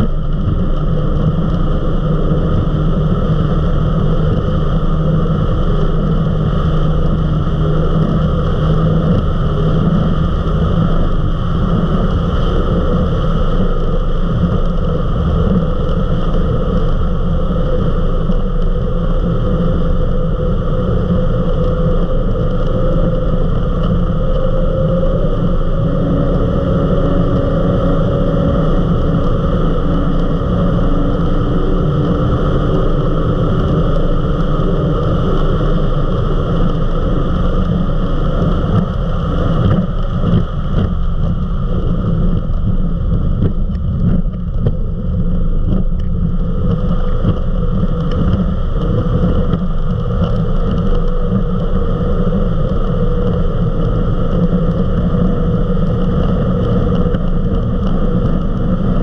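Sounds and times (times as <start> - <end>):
powerboat engine drone: 0.0 - 59.0
rushing wind and water: 0.0 - 59.0.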